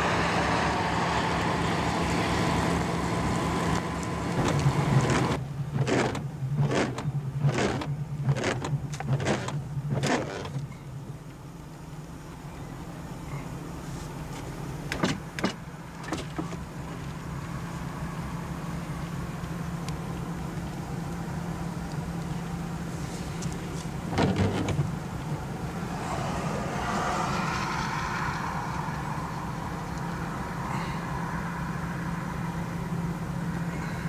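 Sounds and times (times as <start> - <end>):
car engine rumble: 0.0 - 34.0.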